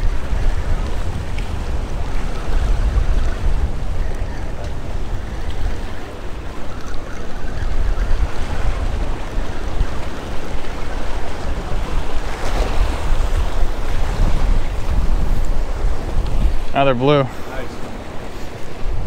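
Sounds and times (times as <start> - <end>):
surf splashing against rocks: 0.0 - 19.0
wind buffeting microphone: 0.0 - 19.0.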